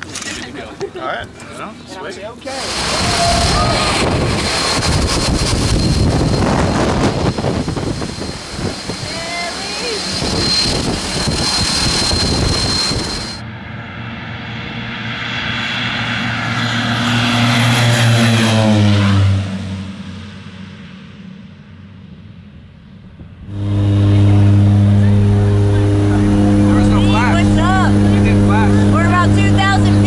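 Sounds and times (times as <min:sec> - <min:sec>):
propeller plane passing by: 0:02.4 - 0:30.0
loud engine drone up close: 0:02.5 - 0:30.0.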